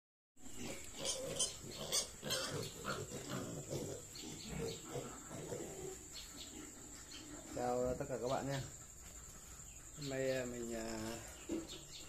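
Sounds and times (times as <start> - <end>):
piglets grunting and squealing: 0.4 - 12.0.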